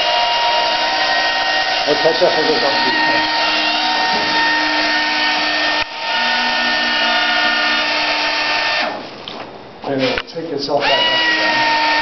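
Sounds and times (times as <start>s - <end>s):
electric fans whirring: 0.0s - 12.0s.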